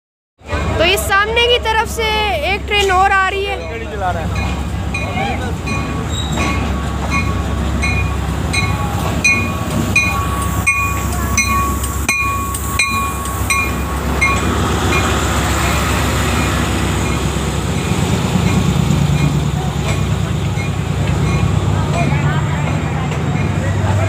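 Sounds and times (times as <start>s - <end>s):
diesel locomotive rumbling: 0.4s - 24.0s
train coaches rolling by: 0.4s - 24.0s.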